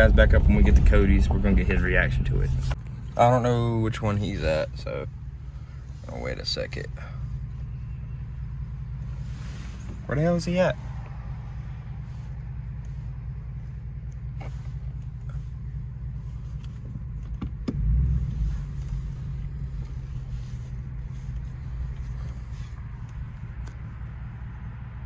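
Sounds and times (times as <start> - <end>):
low exhaust rumble: 0.0 - 25.0.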